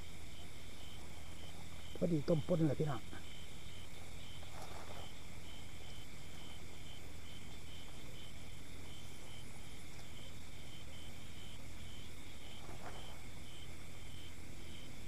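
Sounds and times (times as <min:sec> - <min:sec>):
crickets chirping: 0:00.0 - 0:15.0
insect drone: 0:00.0 - 0:15.0.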